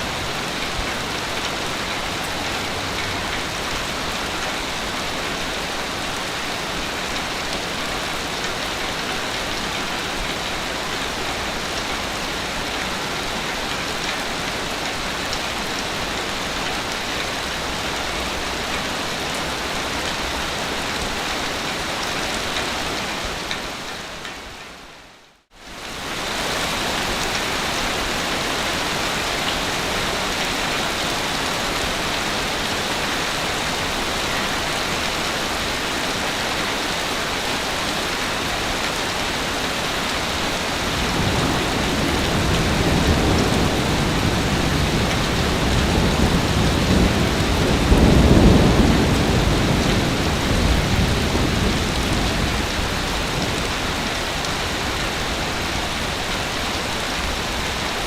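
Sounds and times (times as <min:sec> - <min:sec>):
hiss of rain or surf: 0:00.0 - 0:58.0.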